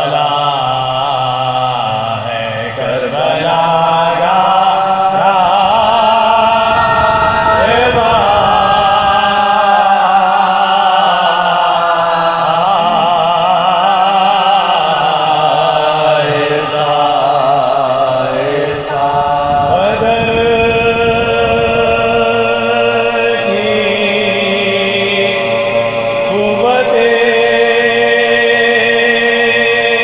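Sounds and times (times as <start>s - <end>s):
man chanting verse: 0.0s - 30.0s
low drone: 0.9s - 30.0s.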